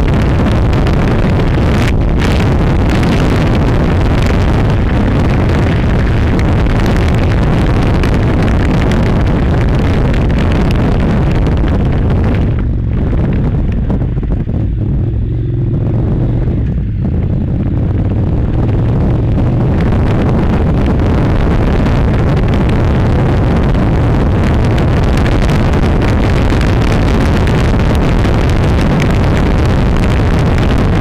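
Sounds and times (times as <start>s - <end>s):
motorcycle engine running: 0.0s - 31.0s
wind buffeting microphone: 0.0s - 31.0s.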